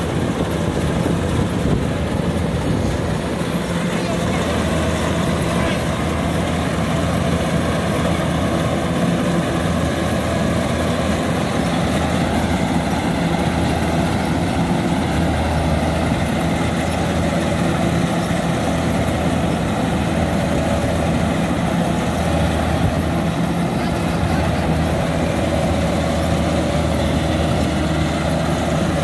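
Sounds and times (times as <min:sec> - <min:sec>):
combine harvester engine droning: 0:00.0 - 0:29.0.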